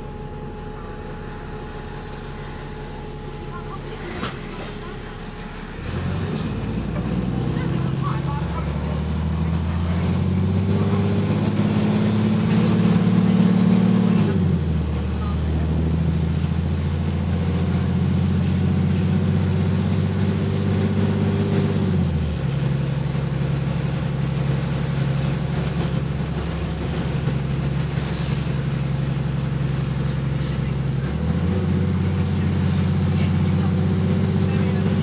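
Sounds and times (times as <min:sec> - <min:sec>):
diesel bus engine running: 0:00.0 - 0:35.0.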